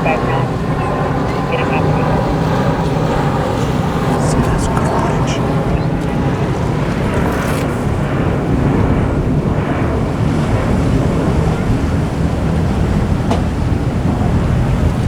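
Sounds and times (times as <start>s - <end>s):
boat engines rumbling: 0.0s - 15.0s
waves: 0.0s - 15.0s
wind buffeting microphone: 0.0s - 15.0s.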